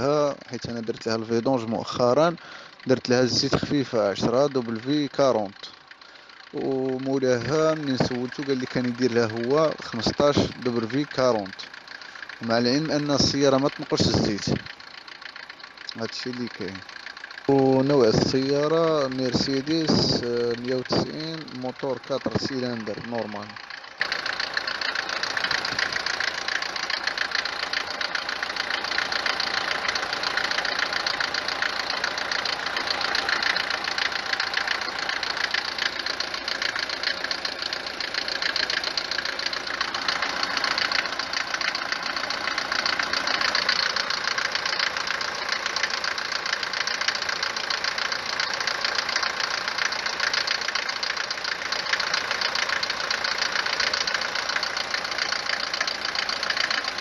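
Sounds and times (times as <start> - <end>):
diesel engine clattering idle: 0.0 - 57.0.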